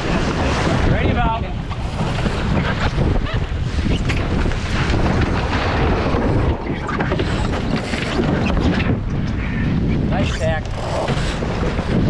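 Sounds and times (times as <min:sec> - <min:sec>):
boat rigging knocks and rattles: 0:00.0 - 0:12.0
heavy wind buffeting microphone: 0:00.0 - 0:12.0.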